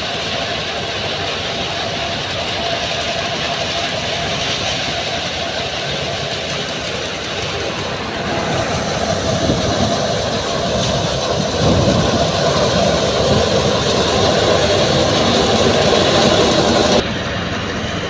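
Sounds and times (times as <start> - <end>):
wheat thresher running: 0.0 - 18.0.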